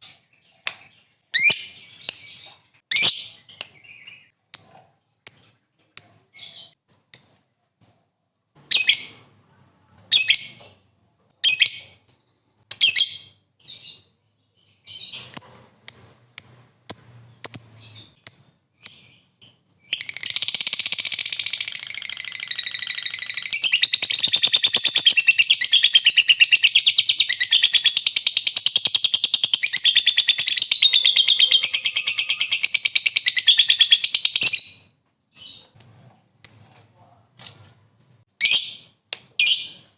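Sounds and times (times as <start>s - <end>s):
lovebird chirping and trilling: 0.0s - 8.0s, 8.6s - 9.4s, 10.1s - 10.8s, 11.4s - 12.0s, 12.6s - 39.9s.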